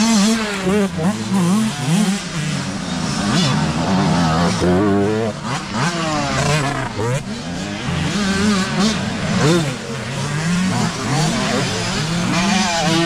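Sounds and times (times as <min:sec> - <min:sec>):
dirt bike engines revving: 0:00.0 - 0:13.0
dirt bike passing close by: 0:00.0 - 0:13.0.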